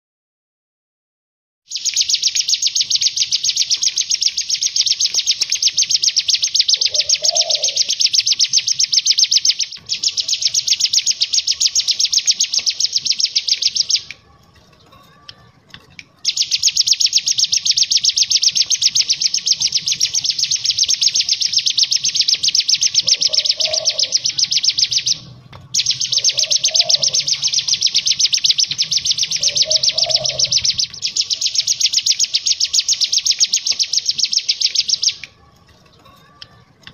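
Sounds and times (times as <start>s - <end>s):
bird singing rapid high notes: 1.7s - 14.2s, 16.2s - 35.3s.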